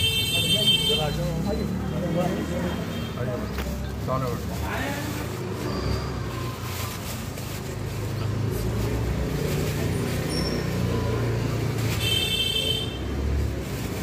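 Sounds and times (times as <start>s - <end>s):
crowd chatter: 0.0s - 14.0s
street traffic rumble: 0.0s - 14.0s.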